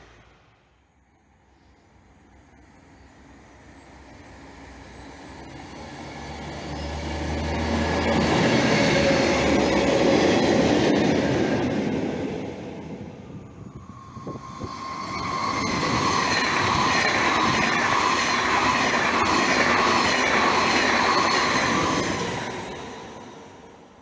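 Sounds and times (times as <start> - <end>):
train passing rumble: 1.7 - 24.0.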